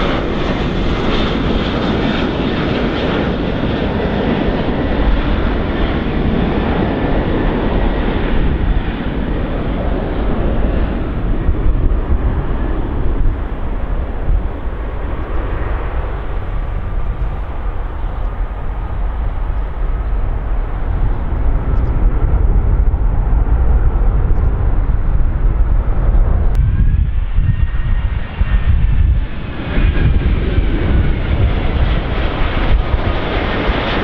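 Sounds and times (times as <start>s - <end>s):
airliner engines rumbling: 0.0s - 34.0s.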